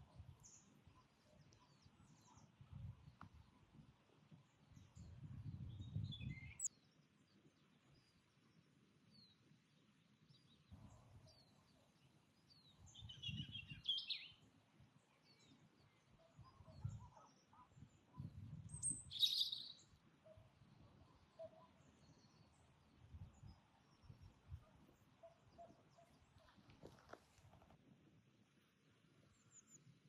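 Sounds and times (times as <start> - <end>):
wild birds singing: 0.0 - 3.4, 4.3 - 27.2.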